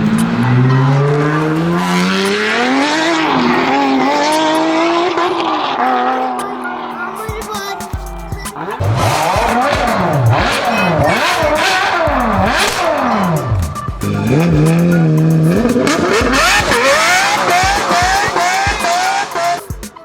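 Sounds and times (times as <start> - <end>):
cartoon toy vehicle sound effects: 0.0 - 20.0.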